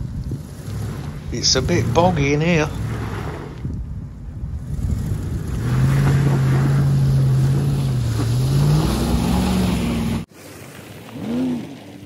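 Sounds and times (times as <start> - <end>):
engine pulling through mud: 0.0 - 10.3, 10.9 - 12.0.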